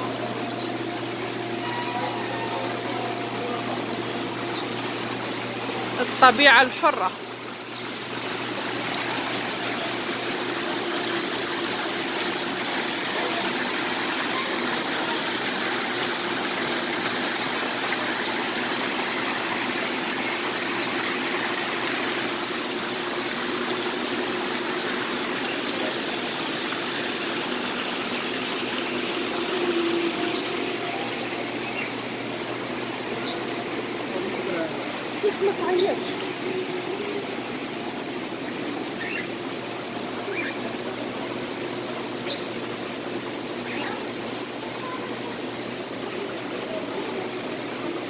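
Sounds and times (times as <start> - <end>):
running water: 0.0 - 48.0.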